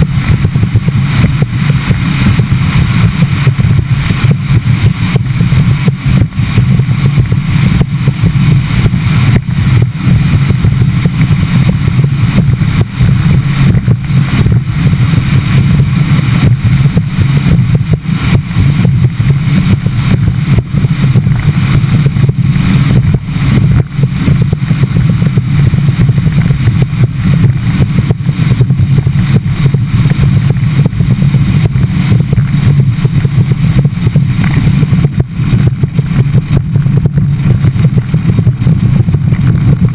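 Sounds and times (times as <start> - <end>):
boat on choppy water: 0.0 - 39.9
outboard motor running: 0.0 - 39.9
wind buffeting microphone: 0.0 - 39.9.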